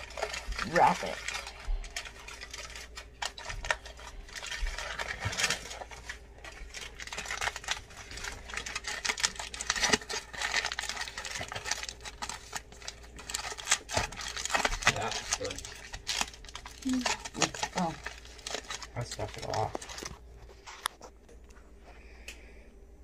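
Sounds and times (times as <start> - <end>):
aluminum foil crinkling: 0.0 - 21.4.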